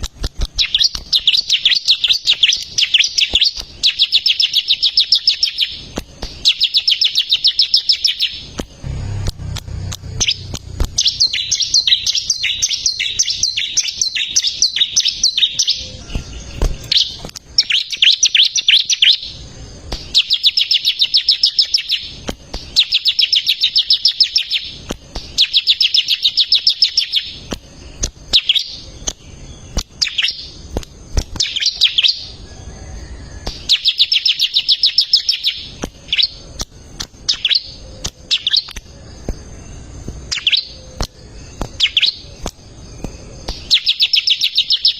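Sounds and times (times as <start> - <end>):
bird singing rapid trills: 0.6 - 44.9.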